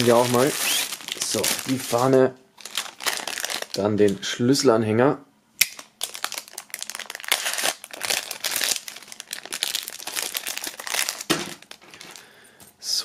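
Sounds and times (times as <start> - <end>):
plastic bag crinkling: 0.0 - 4.2, 5.8 - 12.4.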